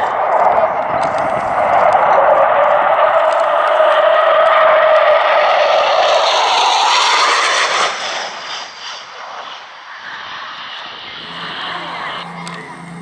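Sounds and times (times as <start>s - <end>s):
jet aircraft passing: 0.0s - 13.0s.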